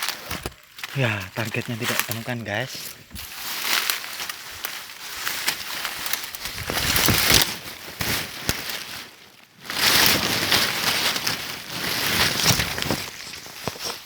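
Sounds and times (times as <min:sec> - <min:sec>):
leaves and brush rustling: 0:00.0 - 0:14.0.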